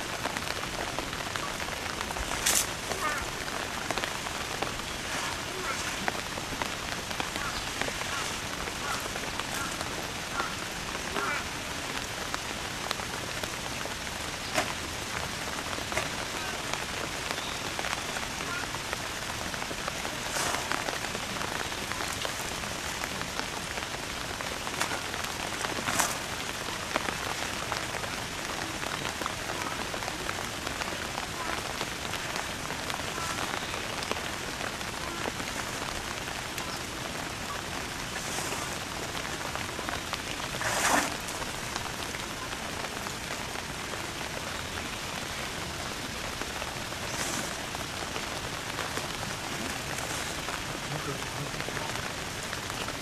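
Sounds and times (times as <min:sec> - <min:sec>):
rain hissing: 0:00.0 - 0:53.0.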